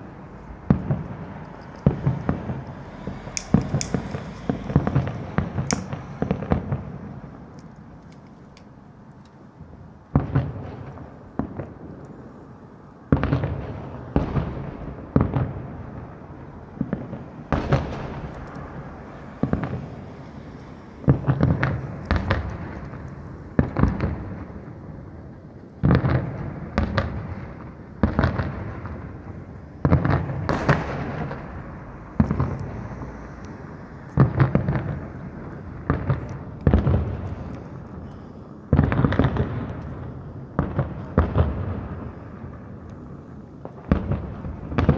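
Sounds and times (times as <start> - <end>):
fireworks bursting: 0.0 - 8.0, 13.0 - 44.9.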